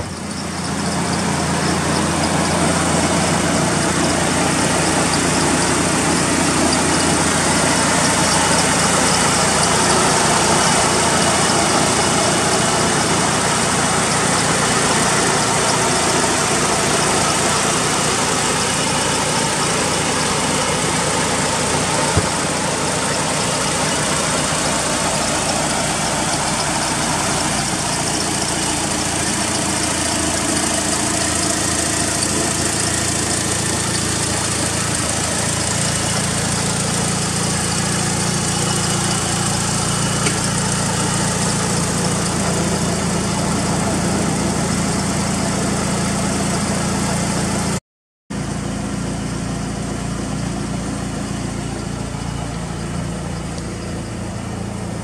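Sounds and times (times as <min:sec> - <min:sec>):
car engine idling: 0:00.0 - 0:47.8, 0:48.4 - 0:55.0.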